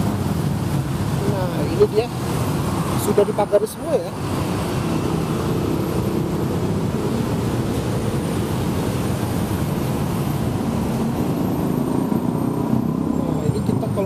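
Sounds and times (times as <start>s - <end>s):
heavy road traffic rumble: 0.0s - 14.0s.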